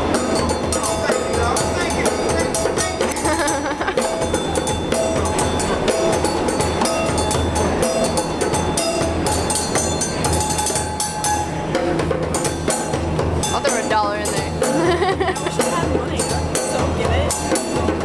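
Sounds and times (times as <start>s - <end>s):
djembe played by hand: 0.0s - 18.0s.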